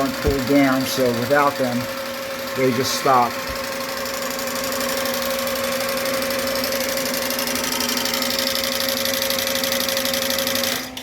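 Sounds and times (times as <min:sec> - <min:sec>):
fast mechanical clatter: 0:00.0 - 0:11.0
projector motor hum: 0:00.0 - 0:11.0.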